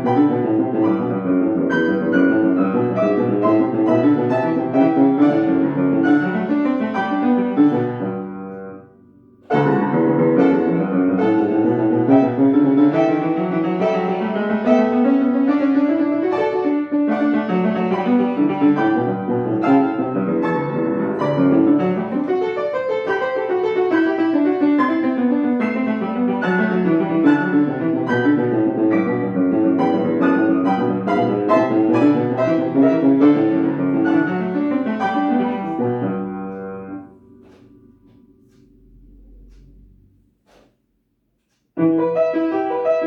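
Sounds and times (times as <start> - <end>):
solo classical piano: 0.0 - 43.0.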